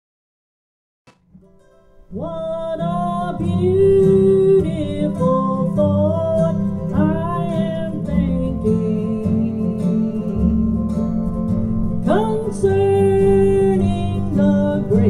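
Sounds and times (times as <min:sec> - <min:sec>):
acoustic guitar: 0:01.1 - 0:15.0
upright bass: 0:02.1 - 0:15.0.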